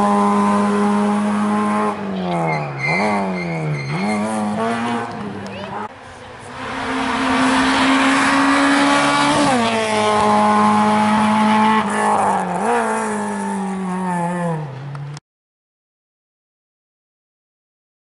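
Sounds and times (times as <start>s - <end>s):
racing car engine: 0.0s - 15.2s.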